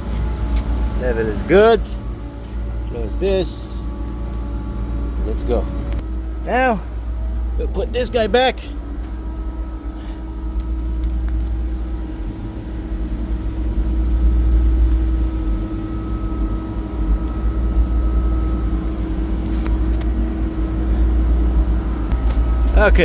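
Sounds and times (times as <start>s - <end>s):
chiller low rumble: 0.0s - 23.0s
steady machine hum: 0.0s - 23.0s.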